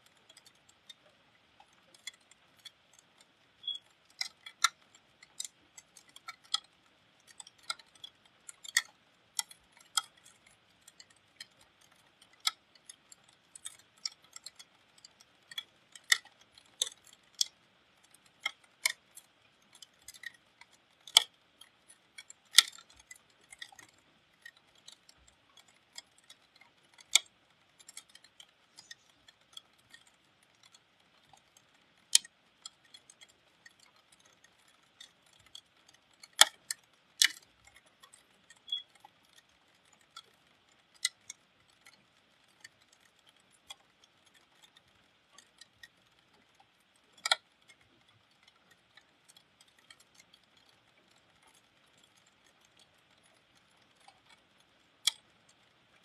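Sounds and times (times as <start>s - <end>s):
raindrops ticking on hard surface: 0.0s - 56.0s.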